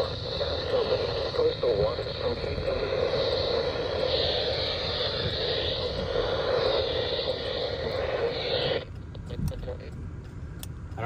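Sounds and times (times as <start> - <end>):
loud steady hiss: 0.0 - 10.0.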